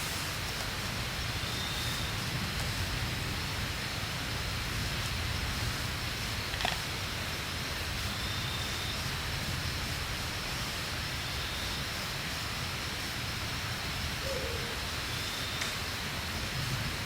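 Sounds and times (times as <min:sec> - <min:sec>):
faint high hiss: 0:00.0 - 0:17.0
rushing outdoor noise: 0:00.0 - 0:17.0.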